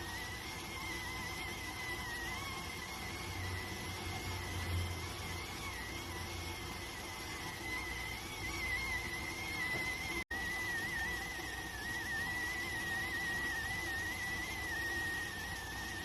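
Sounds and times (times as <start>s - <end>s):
cooker whistling: 0.0s - 16.0s.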